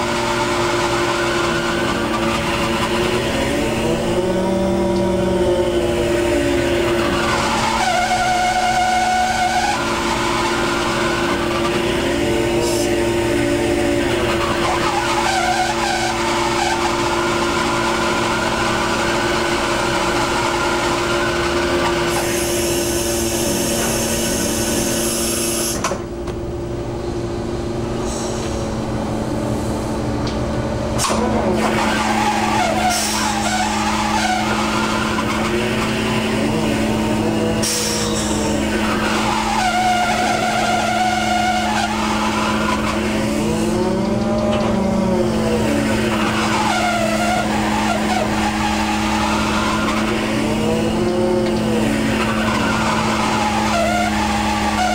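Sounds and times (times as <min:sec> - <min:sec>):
wind: 0:00.0 - 0:54.8
boat engine and machinery hum: 0:00.0 - 0:54.9.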